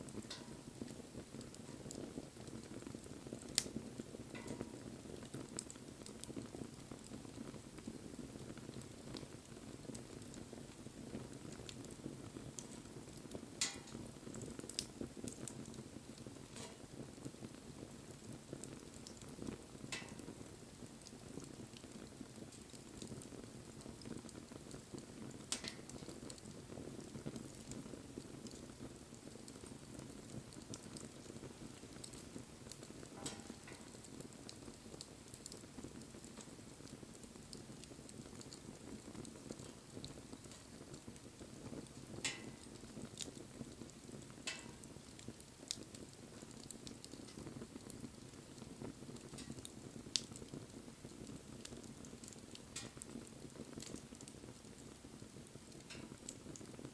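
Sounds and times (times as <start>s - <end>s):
burning wood popping: 0.0s - 56.9s
wood fire burning: 0.0s - 56.9s.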